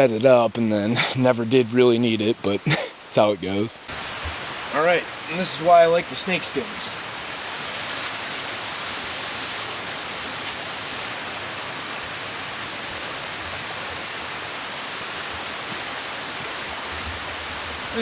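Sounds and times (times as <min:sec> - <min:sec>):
mountain stream running: 0:00.0 - 0:18.0.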